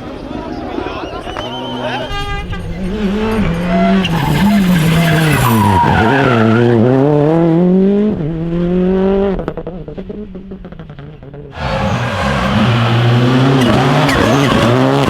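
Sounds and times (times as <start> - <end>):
rally car engine revving: 1.3 - 15.0.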